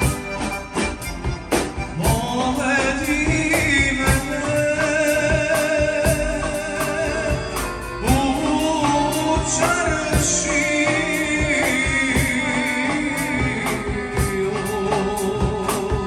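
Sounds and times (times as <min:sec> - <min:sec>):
live folk band playing: 0:00.0 - 0:16.0
steady drum beat: 0:00.0 - 0:16.0.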